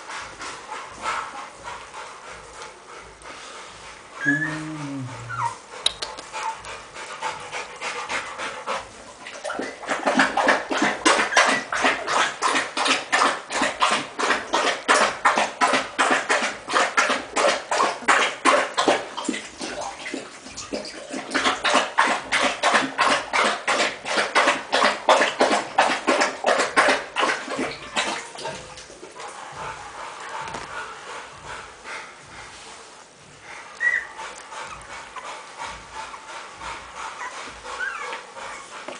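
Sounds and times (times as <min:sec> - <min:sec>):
puppies making rapid rhythmic sounds: 0:00.0 - 0:38.9.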